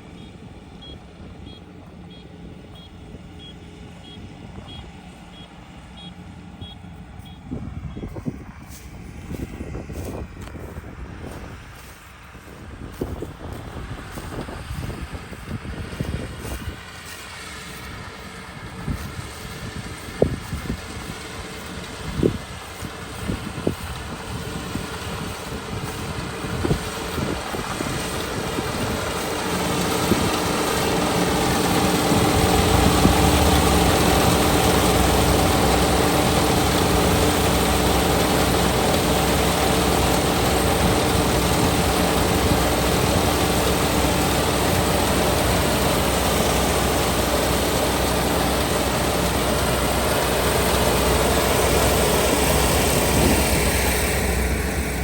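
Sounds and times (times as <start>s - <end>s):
diesel engine droning: 0.0s - 55.0s
machinery whine: 0.0s - 55.0s.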